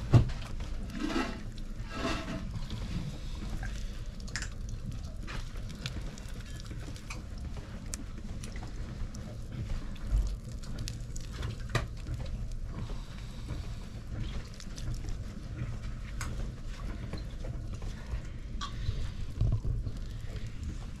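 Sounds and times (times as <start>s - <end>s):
pottery wheel low rumble: 0.0s - 21.0s
wet clay squelching: 0.4s - 21.0s.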